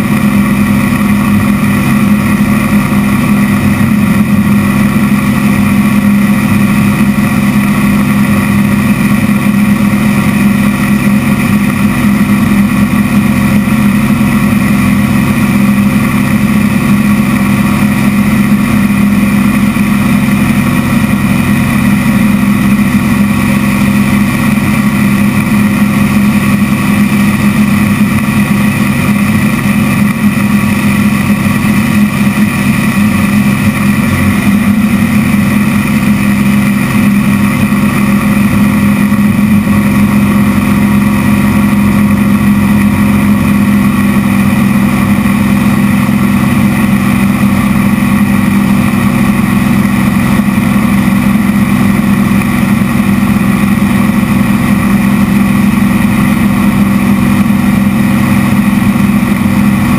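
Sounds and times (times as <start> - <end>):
plane engine and propeller running: 0.0 - 59.9.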